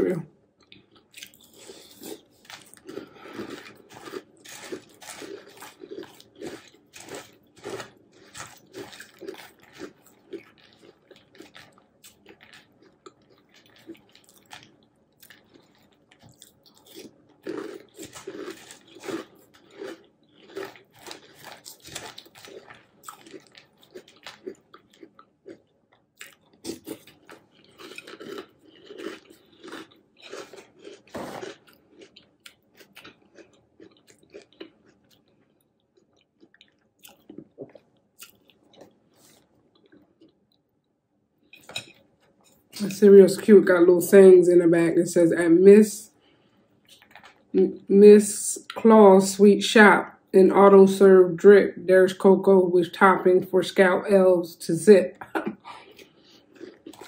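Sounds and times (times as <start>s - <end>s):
chewing and crunching cereal: 0.6s - 43.8s, 45.9s - 49.4s, 55.2s - 57.0s.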